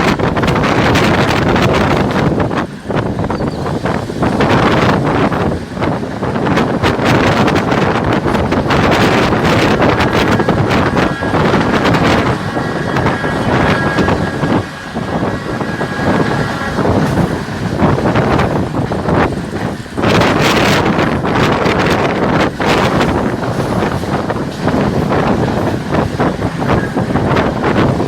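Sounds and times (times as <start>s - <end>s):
train running noise: 0.0s - 28.0s
wind buffeting microphone: 0.0s - 28.0s.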